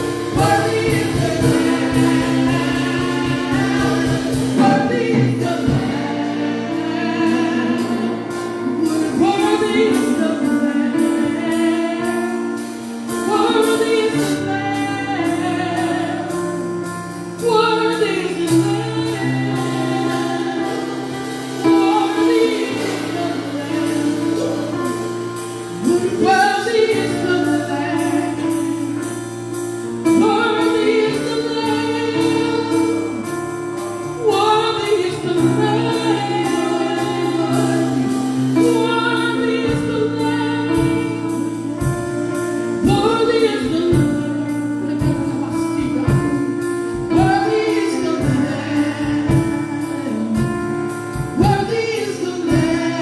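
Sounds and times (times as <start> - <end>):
gospel singing: 0.0 - 53.0
held chords: 0.0 - 53.0.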